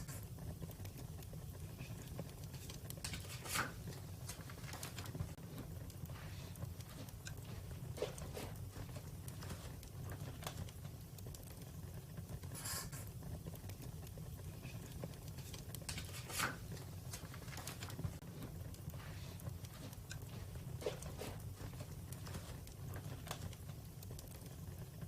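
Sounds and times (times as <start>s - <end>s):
low fire rumble: 0.0s - 25.0s
wood fire crackling: 0.0s - 25.0s.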